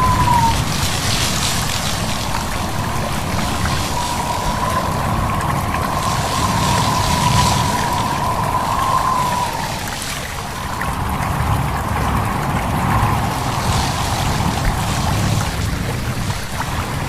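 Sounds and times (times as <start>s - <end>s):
thin wind whistle: 0.0s - 16.9s
babbling stream rushing: 0.0s - 17.0s
wind: 0.0s - 17.0s.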